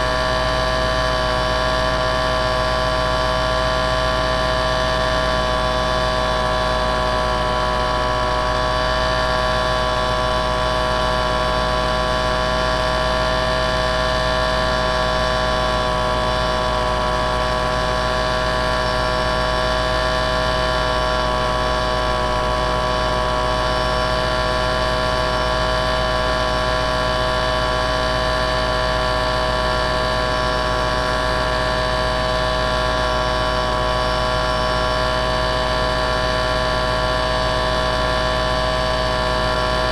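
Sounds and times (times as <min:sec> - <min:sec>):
steady motor hum: 0:00.0 - 0:39.9.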